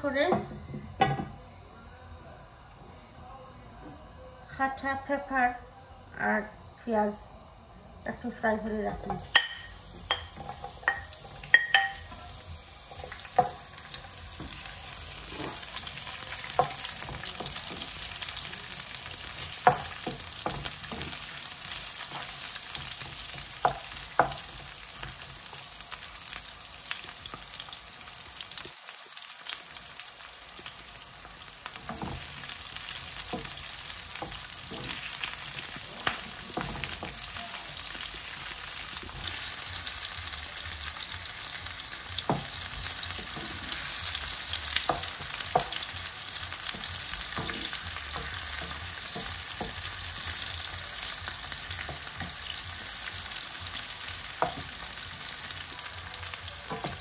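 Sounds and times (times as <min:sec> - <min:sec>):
vegetables sizzling in oil: 0:08.1 - 0:57.0.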